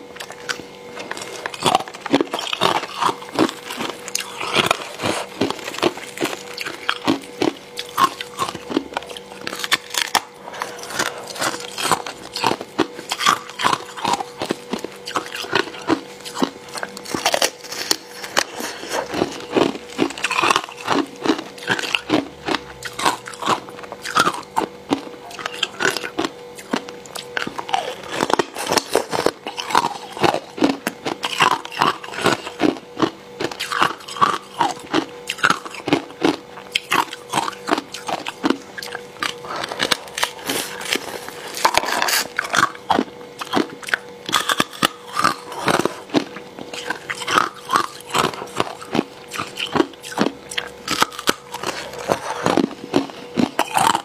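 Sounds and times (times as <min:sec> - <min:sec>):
crunching ice while chewing: 0:00.0 - 0:54.0.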